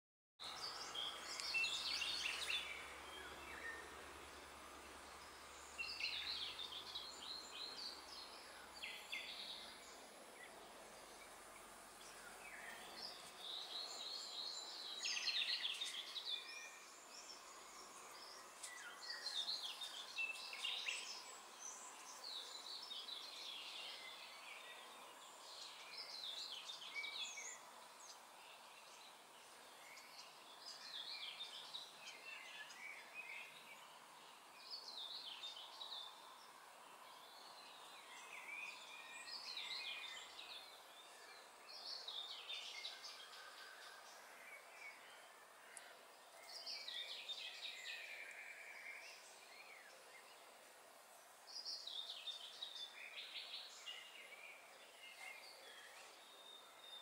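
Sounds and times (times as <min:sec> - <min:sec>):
background hiss: 0:00.4 - 0:57.0
small birds chirping: 0:00.4 - 0:57.0.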